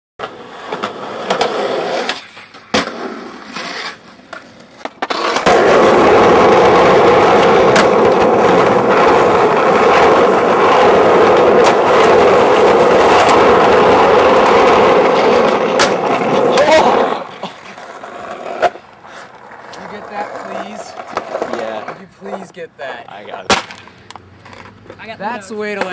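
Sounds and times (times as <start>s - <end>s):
skateboard clacks: 0.2s - 25.9s
skateboard wheels rolling on asphalt: 0.2s - 25.9s.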